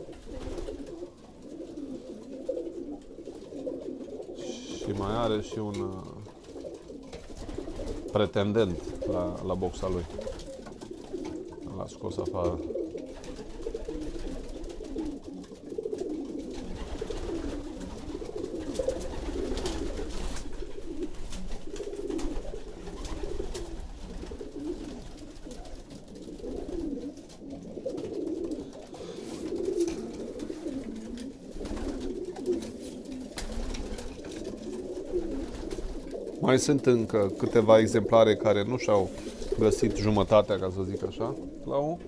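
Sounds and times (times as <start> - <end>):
wings fluttering: 0.0 - 41.6
pigeons cooing: 0.0 - 42.0.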